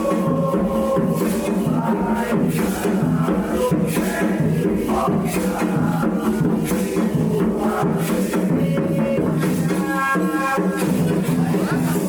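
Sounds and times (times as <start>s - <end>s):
hand drums: 0.0s - 12.0s
sustained voices: 0.0s - 12.0s.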